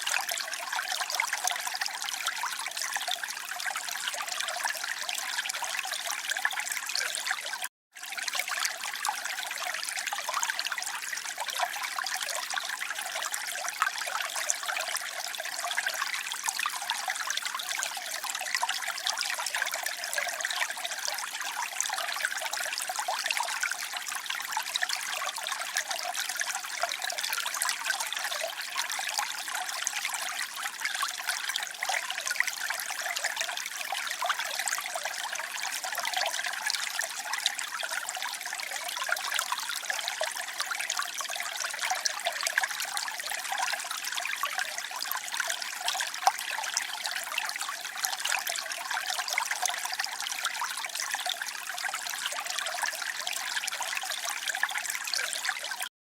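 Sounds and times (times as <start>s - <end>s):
water trickling and splashing: 0.0s - 55.9s.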